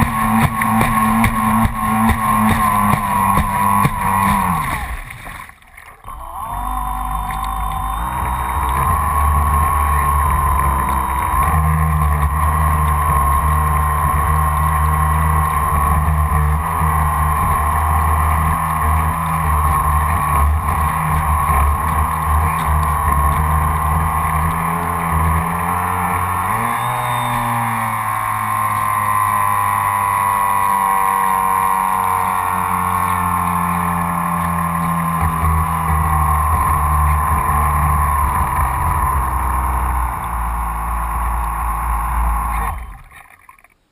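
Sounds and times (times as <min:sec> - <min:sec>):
electric motor whining: 0:00.0 - 0:05.1, 0:06.0 - 0:43.7
water rushing past hull: 0:00.0 - 0:43.9.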